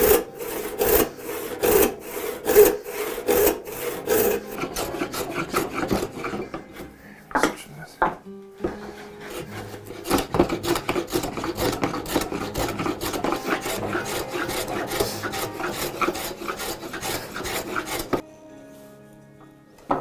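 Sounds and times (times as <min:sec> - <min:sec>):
hand rasp scraping wood: 0:00.0 - 0:07.0, 0:08.6 - 0:18.2.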